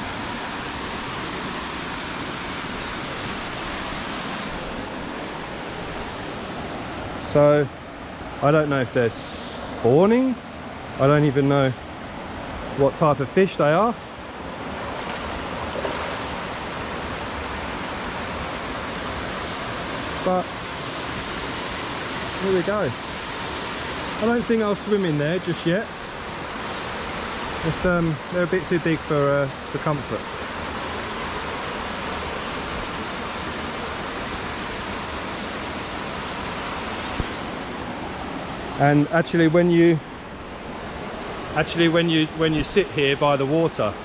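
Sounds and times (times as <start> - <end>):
waterfall rushing into pool: 0.0 - 7.7, 14.7 - 44.0.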